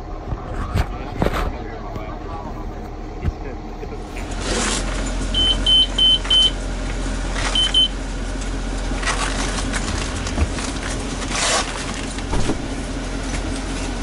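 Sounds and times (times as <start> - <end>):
low vehicle hum: 0.0 - 14.0.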